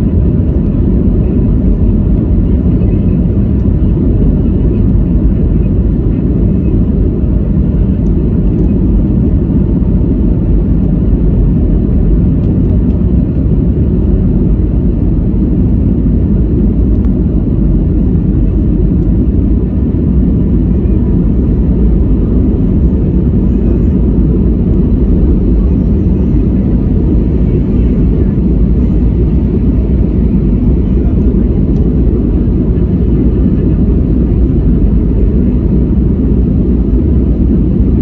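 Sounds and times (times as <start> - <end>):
airliner engine rumble in cabin: 0.0 - 38.0.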